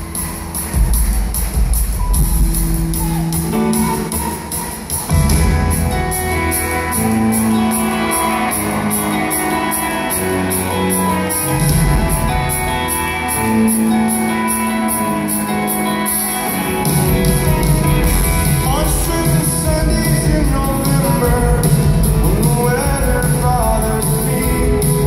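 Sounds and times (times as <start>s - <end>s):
bass guitar: 0.0s - 25.0s
drums: 0.0s - 25.0s
electric guitars: 0.0s - 25.0s
keyboards: 0.0s - 25.0s.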